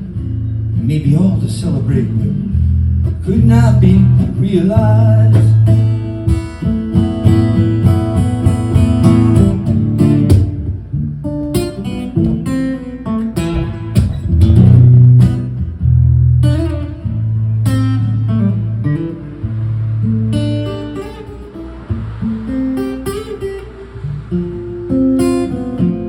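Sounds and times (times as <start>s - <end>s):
guitar picked and strummed: 0.0s - 26.0s.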